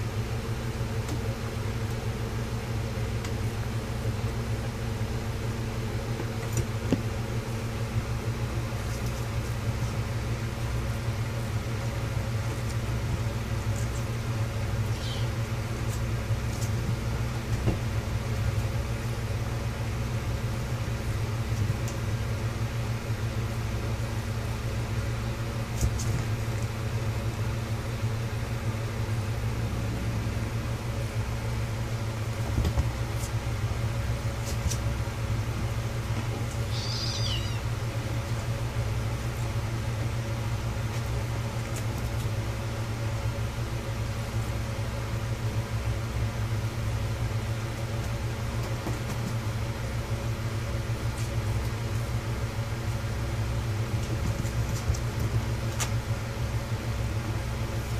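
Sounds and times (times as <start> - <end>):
appliance low hum: 0.0 - 57.9.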